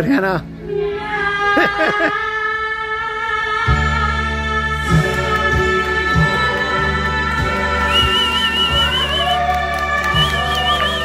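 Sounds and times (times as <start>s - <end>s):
karaoke backing track: 0.0s - 11.0s.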